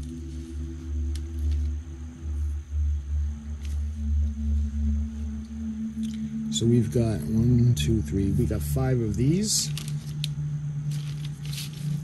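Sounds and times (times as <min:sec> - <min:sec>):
soft music with pulsing bass: 0:00.0 - 0:12.0.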